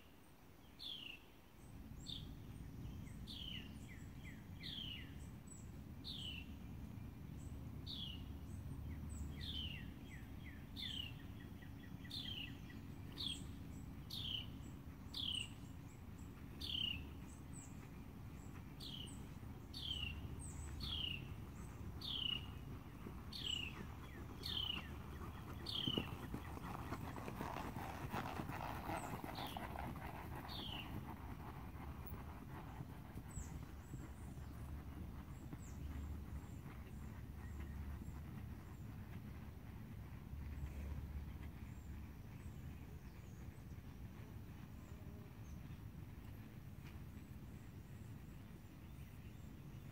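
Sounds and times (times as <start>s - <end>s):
horse hoofbeats on sand: 7.9s - 49.9s.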